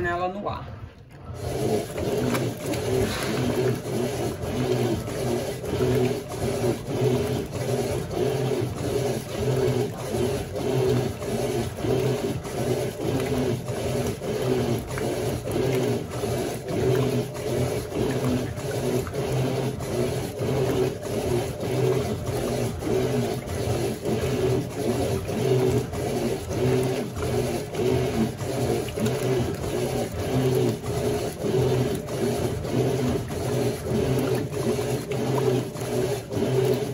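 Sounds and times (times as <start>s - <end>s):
washing machine agitating: 0.0s - 36.9s.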